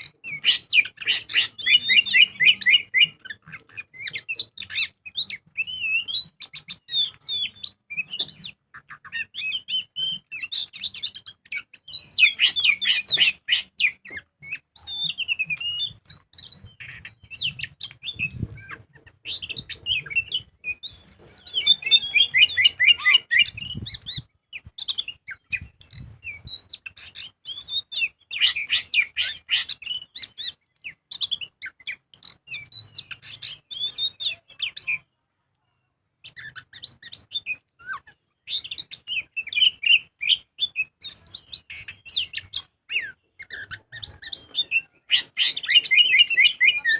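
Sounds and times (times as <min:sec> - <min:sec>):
magpie-robin singing: 0:00.0 - 0:35.2, 0:36.2 - 0:46.9.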